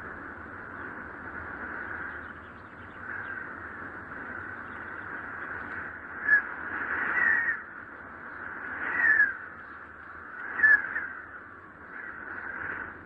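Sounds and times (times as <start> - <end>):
wind howling in gusts: 0.0 - 13.0.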